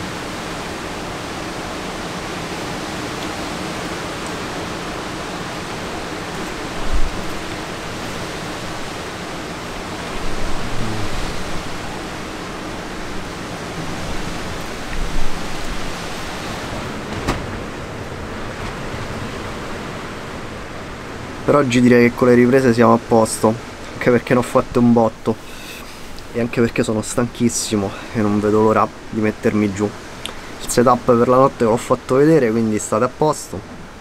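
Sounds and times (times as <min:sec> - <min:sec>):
strong blizzard wind blowing: 0:00.0 - 0:31.6.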